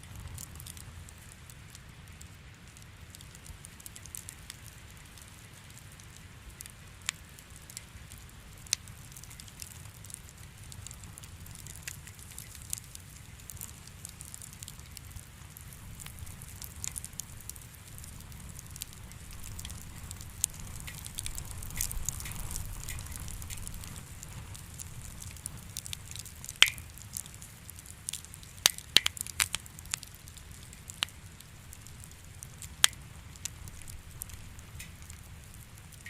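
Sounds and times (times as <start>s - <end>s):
fire crackling: 0.0s - 36.0s.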